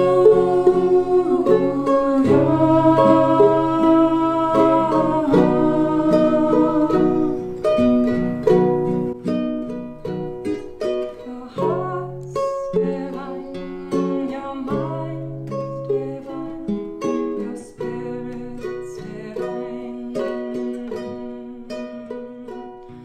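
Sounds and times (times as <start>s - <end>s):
acoustic guitar strummed: 0.0s - 23.0s
small string instrument strummed: 0.0s - 23.0s.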